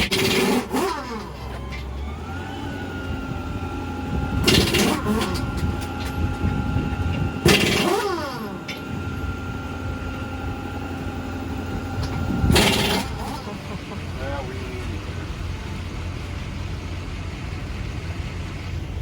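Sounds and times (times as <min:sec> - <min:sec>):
low engine rumble: 0:00.0 - 0:19.0
vehicles passing by: 0:00.0 - 0:19.0.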